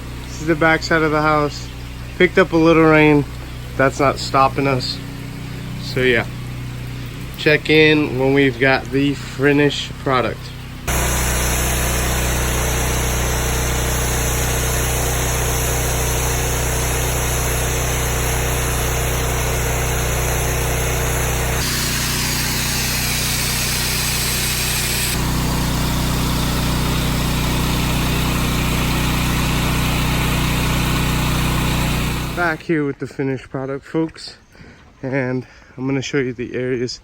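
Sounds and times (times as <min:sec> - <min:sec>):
pressure washer engine running: 0:00.0 - 0:32.7.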